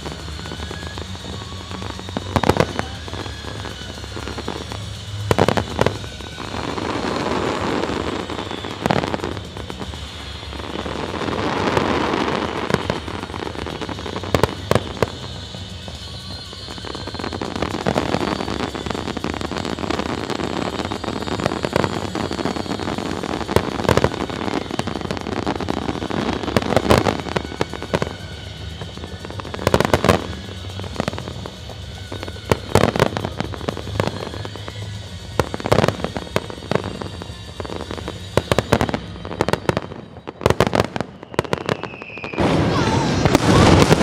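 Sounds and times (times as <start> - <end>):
firework bangs: 0.0 - 44.0
fireworks crackling and popping: 0.0 - 44.0.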